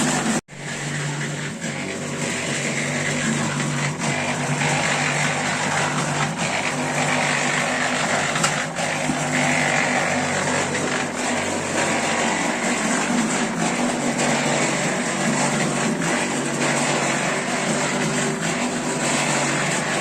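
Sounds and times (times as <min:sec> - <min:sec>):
motor running steadily: 0:00.0 - 0:20.0.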